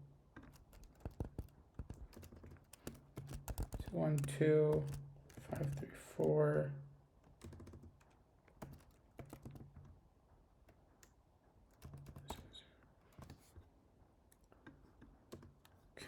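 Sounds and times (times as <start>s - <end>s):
keyboard keystrokes and clicks: 0.4s - 6.4s, 7.2s - 10.0s, 10.6s - 13.6s, 14.3s - 15.8s.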